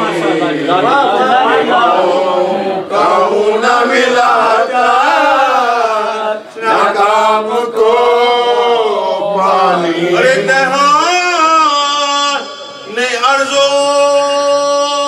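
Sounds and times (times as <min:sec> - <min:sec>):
man chanting a lament: 0:00.0 - 0:15.0.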